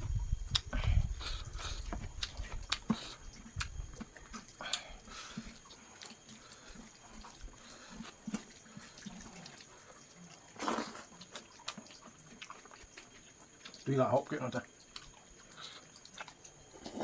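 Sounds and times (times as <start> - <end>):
wet mouth clicks and chewing: 0.0 - 13.9, 14.6 - 17.0.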